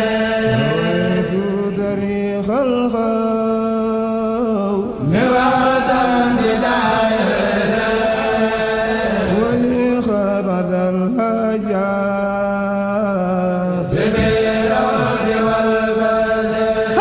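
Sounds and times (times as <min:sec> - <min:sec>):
person chanting: 0:00.0 - 0:17.0.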